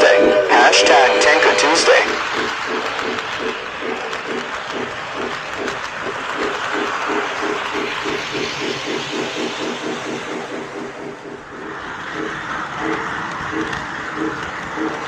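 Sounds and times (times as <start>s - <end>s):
rhythmic wheel beat: 0.0s - 15.0s
toy train motor humming: 0.0s - 15.0s.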